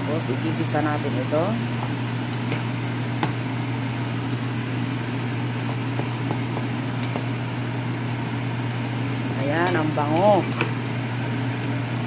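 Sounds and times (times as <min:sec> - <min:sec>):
rice sizzling in oil: 0:00.0 - 0:12.0.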